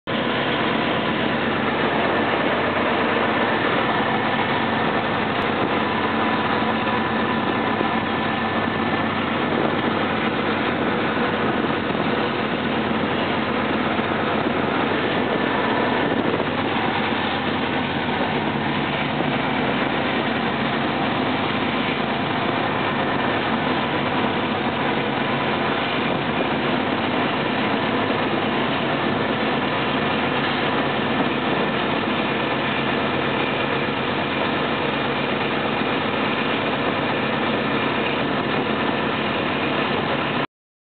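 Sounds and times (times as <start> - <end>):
locomotive engine running: 0.0 - 40.5.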